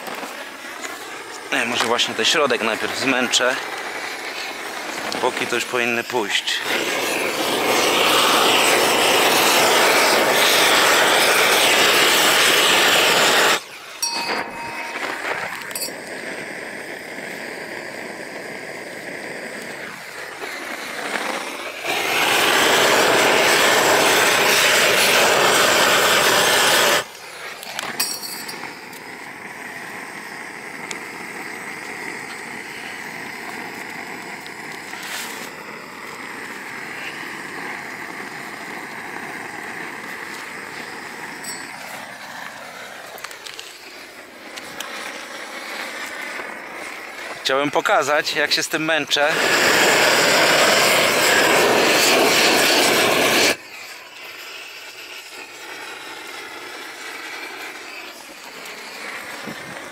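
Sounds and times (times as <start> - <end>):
gas torch roaring: 0.0 - 59.9.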